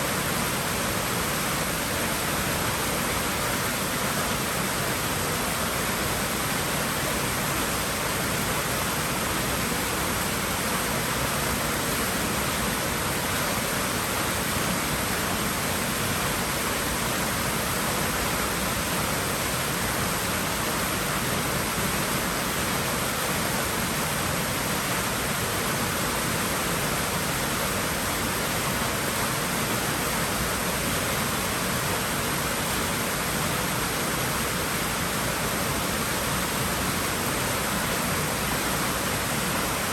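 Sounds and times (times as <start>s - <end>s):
rushing water hiss: 0.0s - 39.9s.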